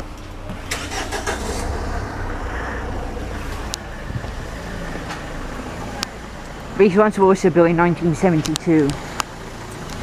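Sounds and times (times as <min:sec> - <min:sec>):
cars driving past: 0:00.5 - 0:10.0.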